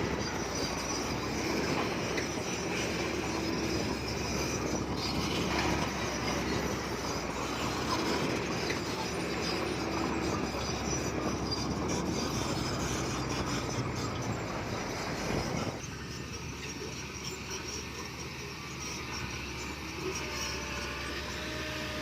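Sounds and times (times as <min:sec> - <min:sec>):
bulldozer diesel engine: 0:00.0 - 0:22.0
steel tracks clattering and squealing: 0:00.0 - 0:22.0.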